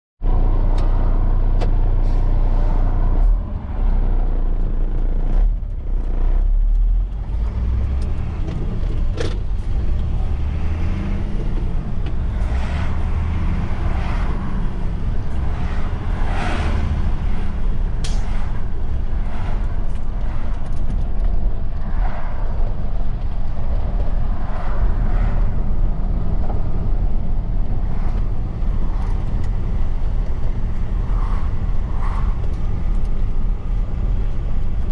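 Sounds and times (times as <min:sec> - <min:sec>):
truck driving rumble: 0:00.2 - 0:34.9.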